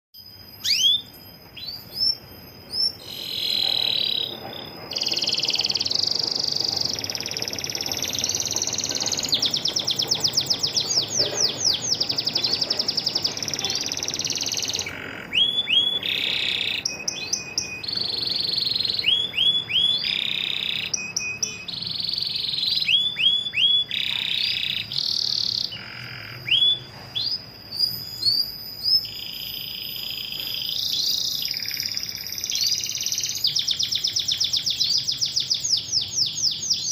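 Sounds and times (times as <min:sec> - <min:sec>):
canary chirps: 0:00.2 - 0:36.9
canary trilled song: 0:00.2 - 0:36.9.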